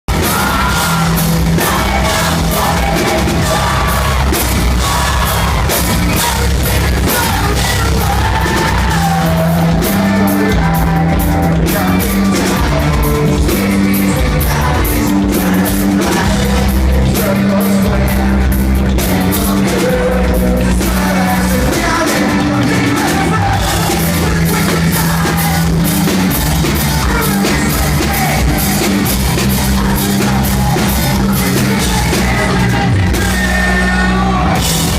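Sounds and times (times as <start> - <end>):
rock band playing: 0.0 - 34.9
vocalist singing and yelling: 0.0 - 34.9.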